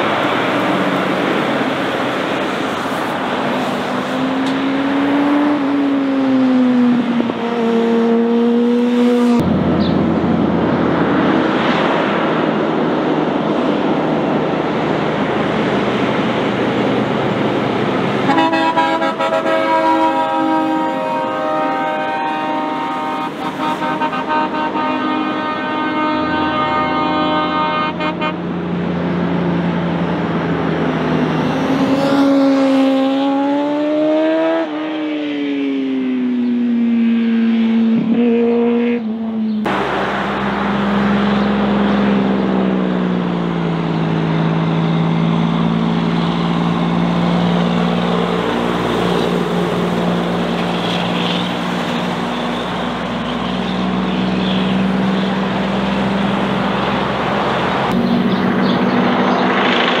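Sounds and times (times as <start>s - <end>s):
heavy diesel truck engines: 0.0s - 60.0s.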